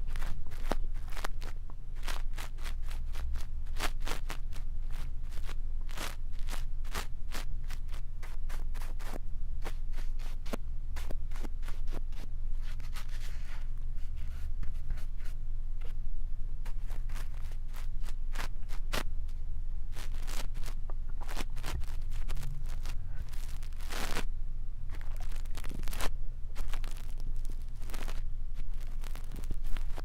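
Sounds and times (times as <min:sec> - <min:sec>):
brush scratching on microphone: 0:00.0 - 0:16.0, 0:16.6 - 0:19.1, 0:19.9 - 0:24.3, 0:24.9 - 0:30.0
low steady rumble: 0:00.0 - 0:30.0.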